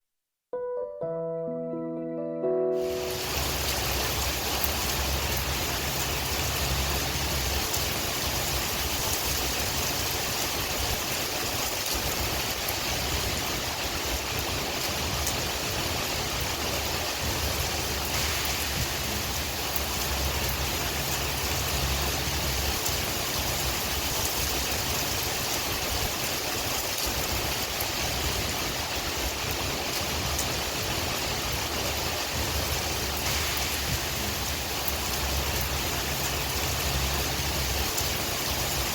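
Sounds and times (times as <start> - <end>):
steady rain with wind: 2.8 - 38.9.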